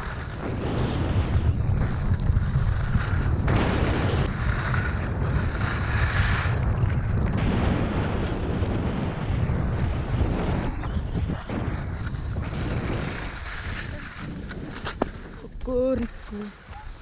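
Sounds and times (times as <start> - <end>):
skis scraping over snow: 0.0 - 17.0
wind rumble on microphone: 0.0 - 17.0.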